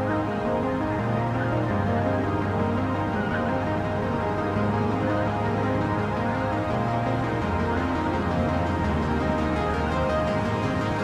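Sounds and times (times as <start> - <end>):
music with held chords: 0.0 - 11.0
steady bass line: 0.0 - 11.0.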